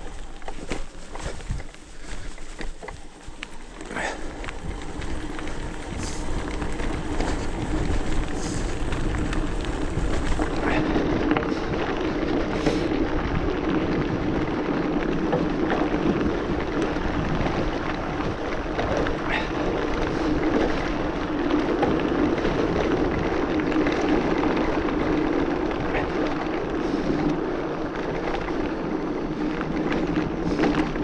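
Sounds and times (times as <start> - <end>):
bike tyre and drivetrain noise: 0.0 - 31.0
wind on microphone: 0.0 - 31.0.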